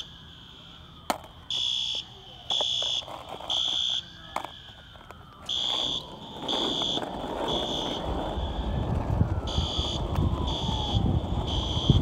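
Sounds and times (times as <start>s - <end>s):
fire engine siren wailing: 0.0s - 12.0s
fire alarm beeps: 1.5s - 8.7s, 9.4s - 12.0s.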